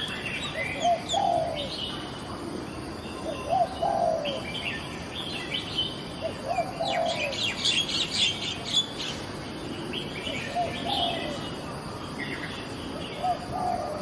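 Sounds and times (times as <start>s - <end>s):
birds chirping and twittering: 0.0s - 14.0s.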